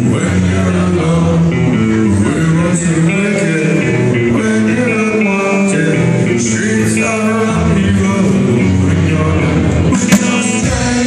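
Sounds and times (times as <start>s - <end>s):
live rock band playing: 0.0s - 11.0s
man singing: 0.0s - 11.0s.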